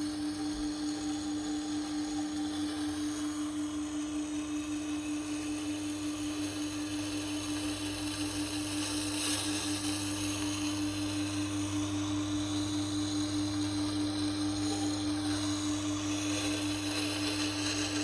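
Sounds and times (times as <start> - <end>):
sharpening machine motor hum: 0.0 - 18.0.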